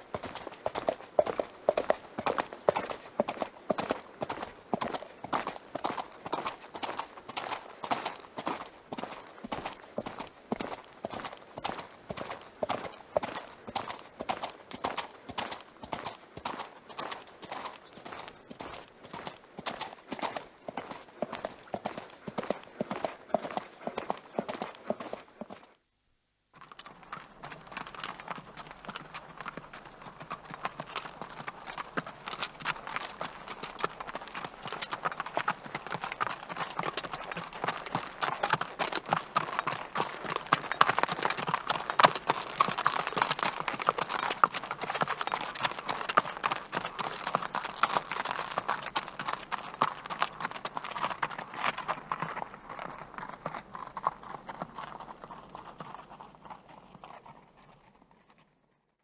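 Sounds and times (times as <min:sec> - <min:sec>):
horse hooves clip-clopping: 0:00.0 - 0:25.8, 0:26.6 - 0:58.7.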